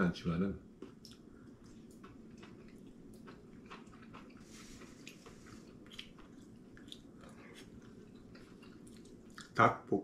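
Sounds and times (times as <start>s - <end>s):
low room hum: 0.0s - 10.0s
person chewing with wet clicks: 0.7s - 9.6s.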